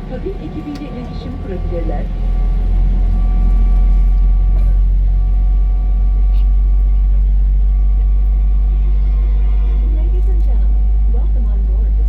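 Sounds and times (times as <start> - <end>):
aircraft cabin rumble: 0.0 - 12.0
faint steady tones: 0.0 - 12.0.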